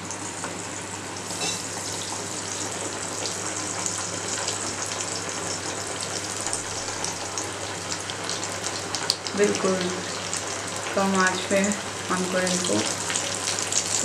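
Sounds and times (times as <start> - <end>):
dough deep-frying in hot fat: 0.0 - 14.0
fine crackles in frying fat: 0.0 - 14.0.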